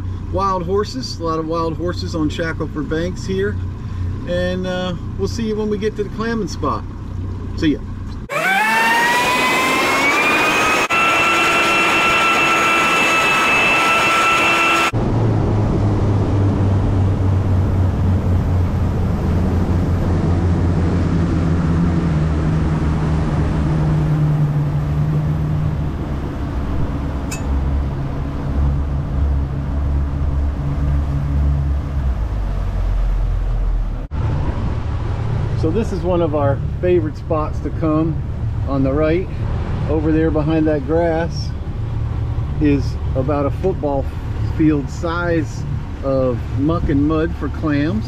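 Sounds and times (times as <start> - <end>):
outboard motors whining: 0.0 - 48.0.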